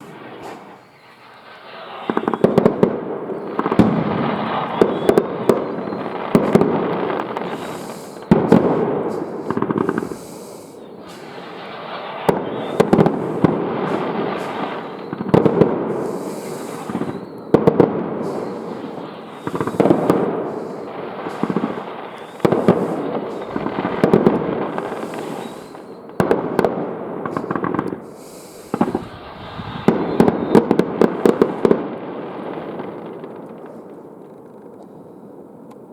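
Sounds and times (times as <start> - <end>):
fireworks hiss: 0.0 - 34.1
fireworks bangs and crackles: 0.0 - 35.9.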